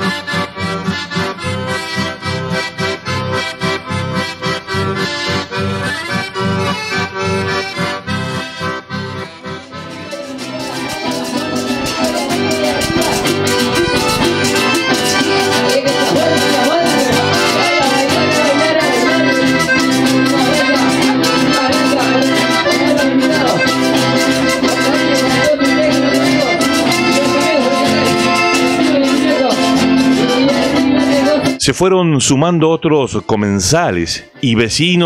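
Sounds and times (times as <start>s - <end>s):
accordion-led folk dance music: 0.0s - 35.0s.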